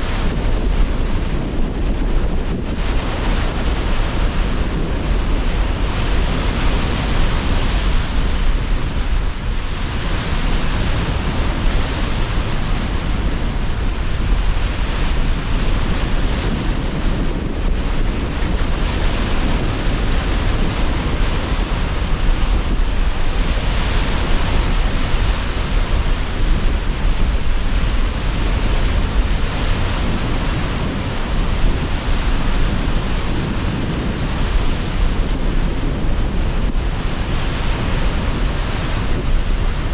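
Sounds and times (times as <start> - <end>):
sea surf breaking: 0.0 - 39.9
strong gusting wind: 0.0 - 39.9.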